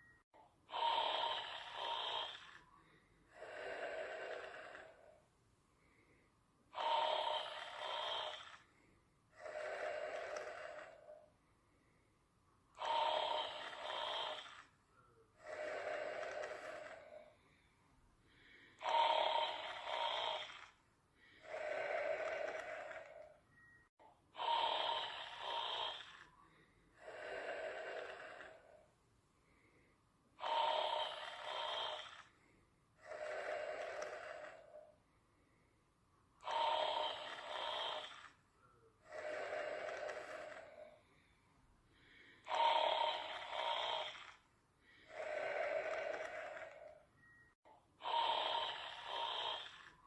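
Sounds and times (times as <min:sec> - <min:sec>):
soft breath: 0:00.0 - 0:50.0
person snoring: 0:00.6 - 0:05.2, 0:06.7 - 0:11.3, 0:12.7 - 0:17.7, 0:18.3 - 0:23.4, 0:24.3 - 0:29.8, 0:30.4 - 0:35.0, 0:36.4 - 0:41.3, 0:41.9 - 0:47.1, 0:48.0 - 0:50.0.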